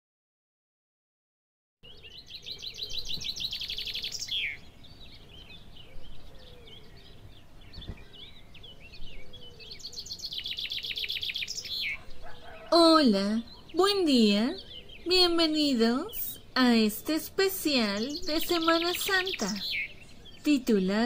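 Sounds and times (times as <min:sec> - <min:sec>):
bird twittering chirps: 0:01.8 - 0:21.0
songbird trill: 0:01.8 - 0:21.0.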